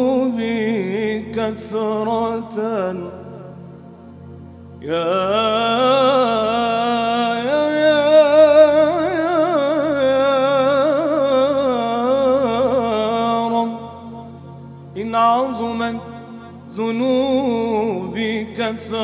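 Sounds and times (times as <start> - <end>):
man singing melisma: 0.0 - 3.6, 4.8 - 14.3, 14.9 - 19.0
steady low drone: 0.0 - 19.0.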